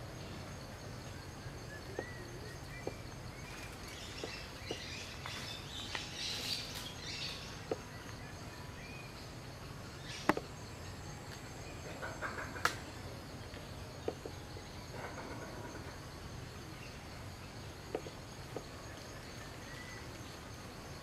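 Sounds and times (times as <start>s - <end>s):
steady low hum: 0.0s - 21.0s
faint bird chirps: 0.2s - 21.0s.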